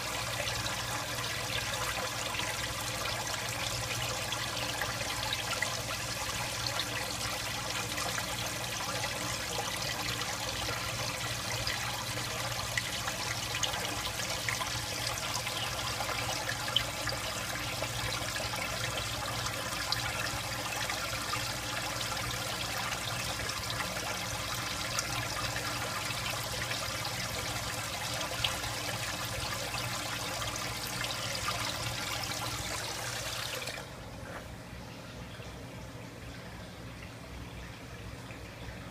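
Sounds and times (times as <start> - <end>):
aquarium water trickling and bubbling: 0.0 - 38.9
low steady hum: 0.0 - 38.9.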